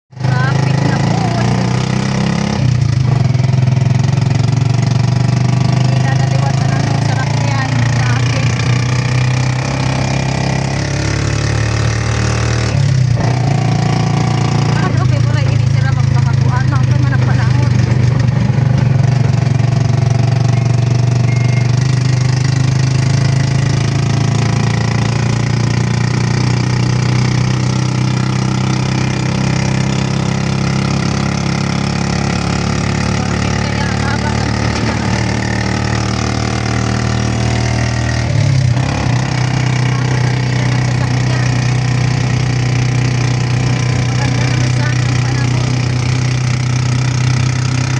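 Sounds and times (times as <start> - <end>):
vehicle engine idling: 0.1 - 47.9.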